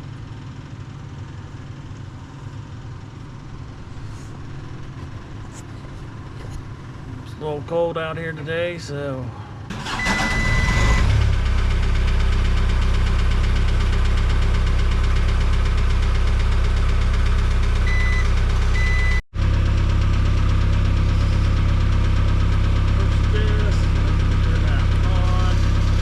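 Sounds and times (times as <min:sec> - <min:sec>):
diesel engine starting and idling: 0:00.0 - 0:26.0.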